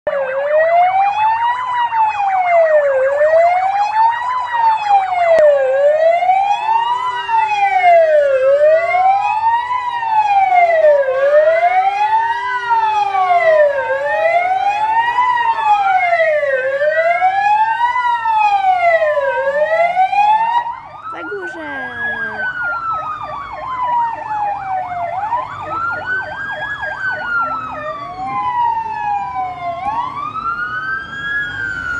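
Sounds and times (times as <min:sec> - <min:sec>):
fire engine sirens wailing: 0:00.1 - 0:31.9
steady siren tone: 0:00.1 - 0:31.9.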